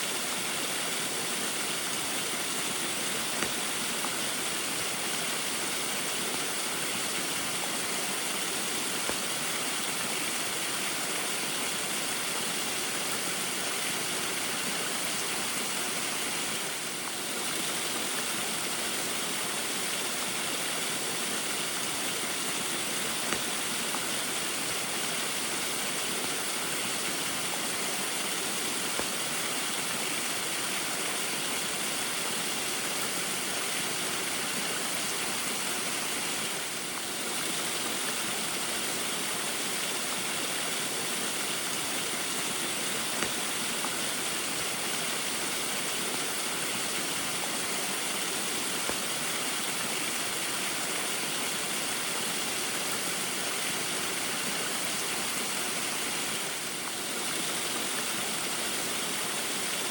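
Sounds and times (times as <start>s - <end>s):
small waterfall rushing: 0.0s - 59.9s.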